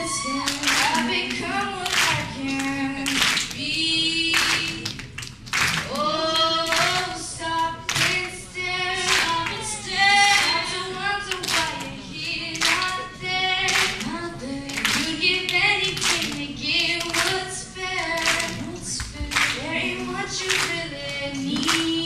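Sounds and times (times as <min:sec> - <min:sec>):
woman singing into a microphone: 0:00.0 - 0:05.0, 0:05.8 - 0:22.0.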